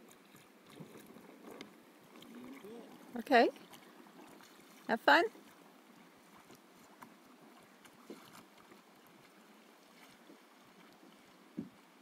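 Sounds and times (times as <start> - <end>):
faint lapping of lake water: 0.0 - 12.0.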